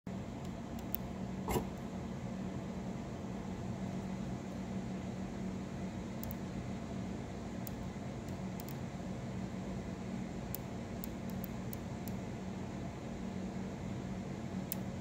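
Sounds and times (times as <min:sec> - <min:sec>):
low mechanical hum: 0:00.1 - 0:15.0.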